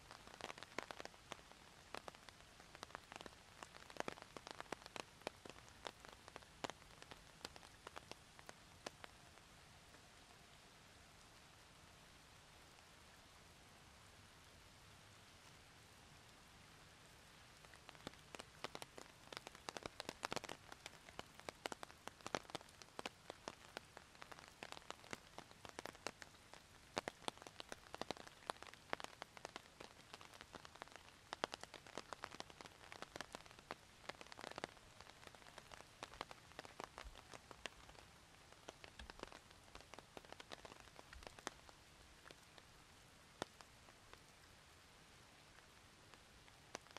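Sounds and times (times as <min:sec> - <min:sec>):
rain hiss: 0:00.0 - 0:46.9.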